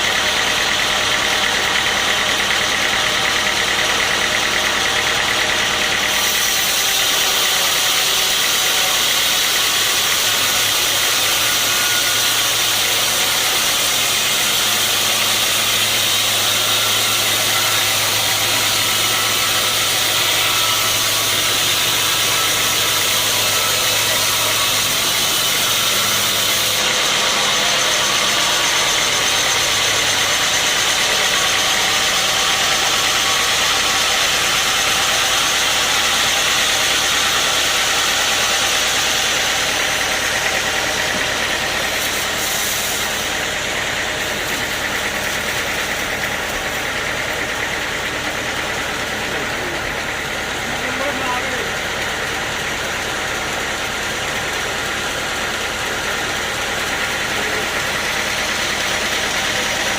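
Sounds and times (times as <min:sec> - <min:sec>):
sawmill machinery droning: 0:00.0 - 0:59.9.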